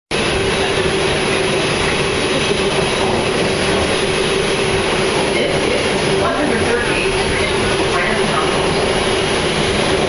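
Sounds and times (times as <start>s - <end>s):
subway train running: 0.1s - 10.0s.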